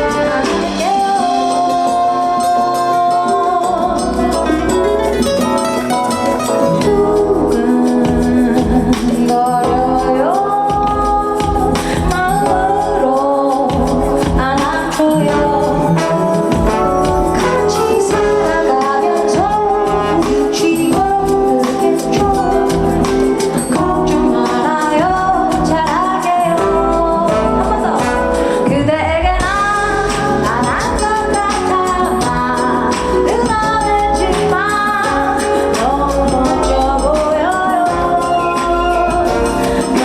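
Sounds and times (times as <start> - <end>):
woman singing: 0.0 - 5.6, 6.4 - 40.0
amplified band playing: 0.0 - 40.0.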